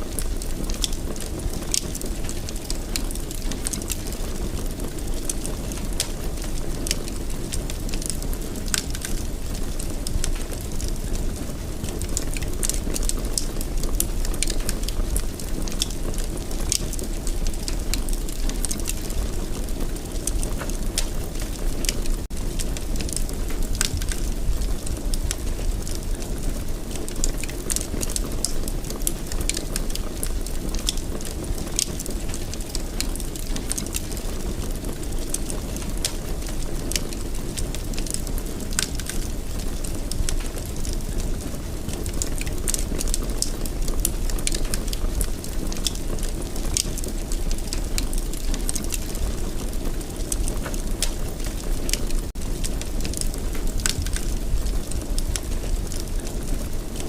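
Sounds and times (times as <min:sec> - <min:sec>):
fire crackling and popping: 0:00.0 - 0:57.0
low rush of flames: 0:00.0 - 0:57.0.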